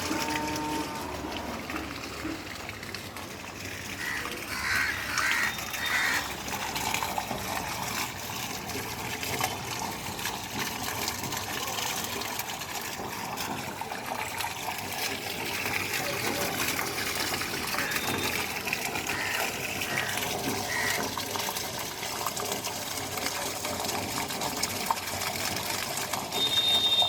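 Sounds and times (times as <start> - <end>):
rainwater running into drain: 0.0 - 27.0.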